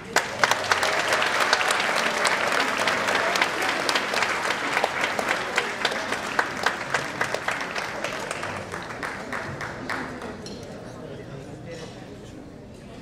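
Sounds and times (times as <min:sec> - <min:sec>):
applause: 0:00.0 - 0:10.5.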